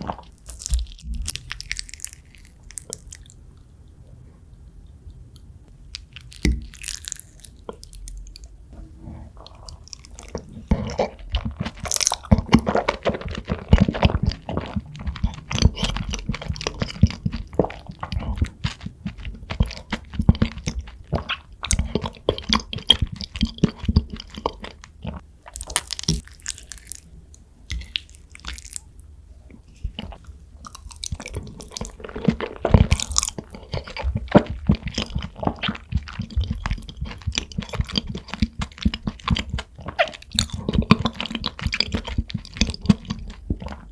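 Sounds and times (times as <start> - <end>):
chewing and biting food: 0.0 - 5.3, 5.9 - 8.5, 9.4 - 27.1, 27.7 - 28.9, 29.7 - 43.9.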